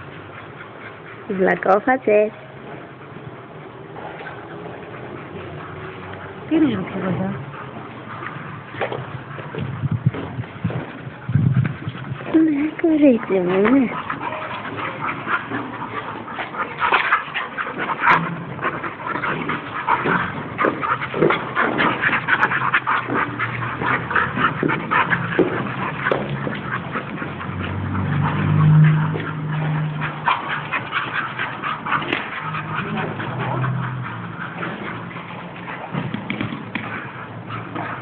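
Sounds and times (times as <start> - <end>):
dogs scuffling and mouthing: 0.0 - 38.0
dog play growl: 2.9 - 38.0.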